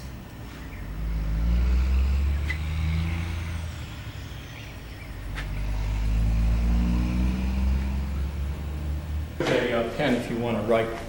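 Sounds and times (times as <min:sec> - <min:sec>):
vehicle engine rumble: 0:00.0 - 0:10.6.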